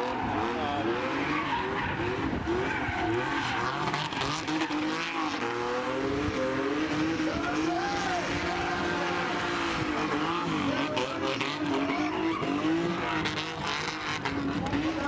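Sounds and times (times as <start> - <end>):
tyres squealing on tarmac: 0.0 - 5.8, 7.0 - 15.0
car engine at high revs: 0.0 - 15.0.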